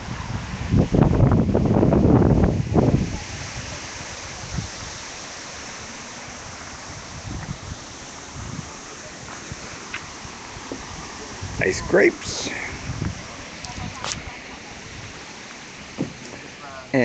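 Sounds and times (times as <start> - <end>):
steady outdoor hiss: 0.0 - 17.0
wind buffeting microphone: 0.0 - 17.0.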